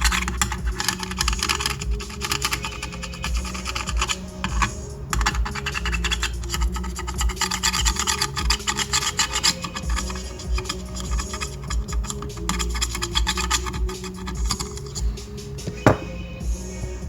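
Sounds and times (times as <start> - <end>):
brush scrubbing circuit board: 0.0 - 15.1.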